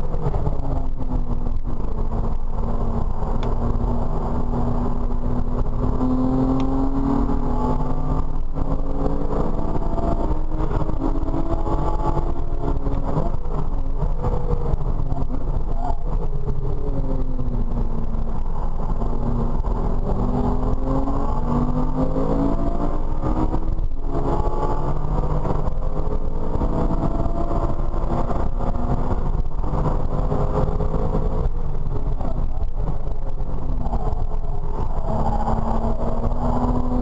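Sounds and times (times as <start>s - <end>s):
car engine accelerating: 0.0s - 37.0s
road noise rumble: 0.0s - 37.0s.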